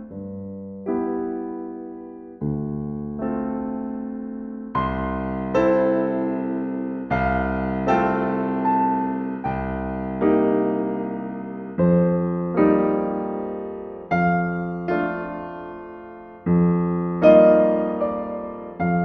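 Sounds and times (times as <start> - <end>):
slow electric piano chords: 0.0 - 19.0.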